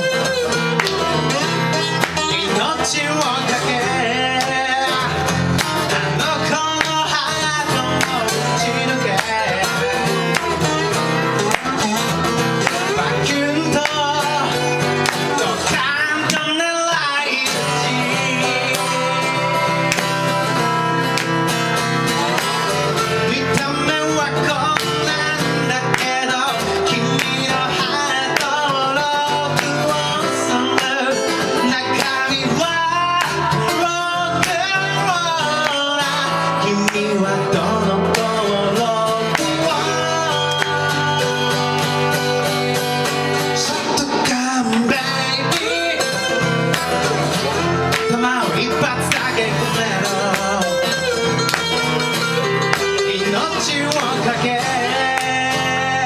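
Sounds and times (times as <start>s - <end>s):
acoustic guitars strummed: 0.0s - 56.0s
person singing: 0.0s - 56.0s.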